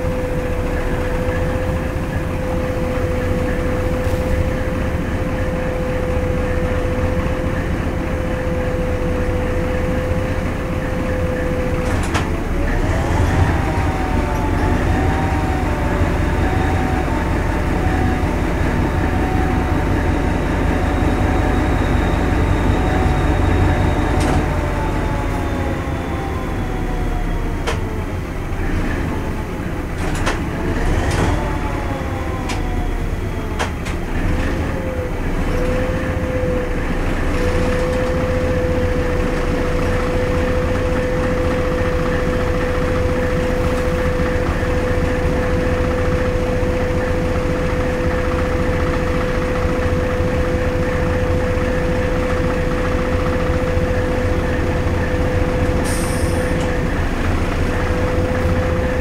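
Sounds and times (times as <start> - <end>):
train engine and wheels rumbling: 0.0 - 59.0.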